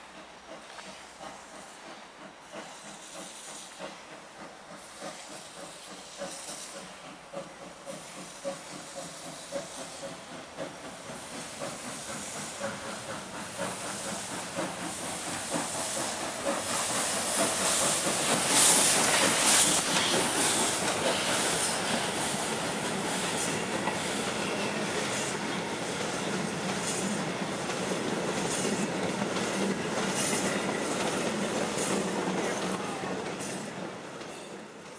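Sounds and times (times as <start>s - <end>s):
steam hissing: 0.0s - 34.9s
steam locomotive chuffing: 0.0s - 34.9s.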